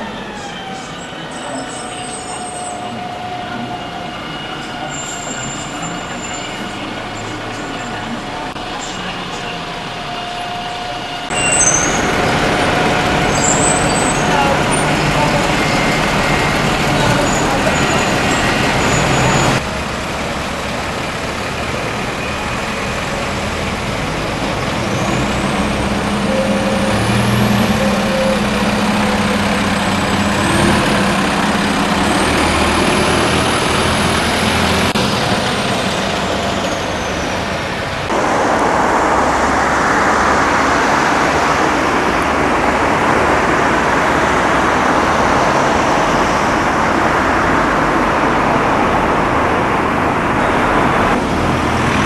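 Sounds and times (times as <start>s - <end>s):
bus engine with rising whine: 0.0s - 52.0s.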